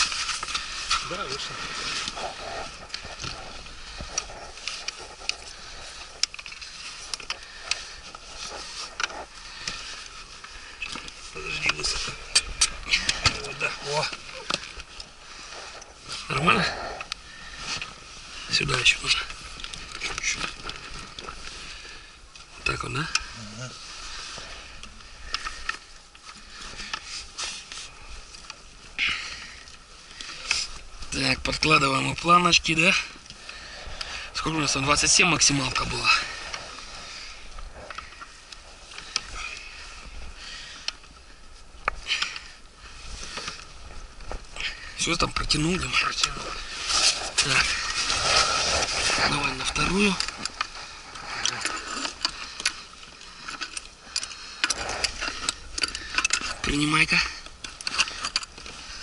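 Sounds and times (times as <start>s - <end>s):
short rustle: 0.0s - 59.0s.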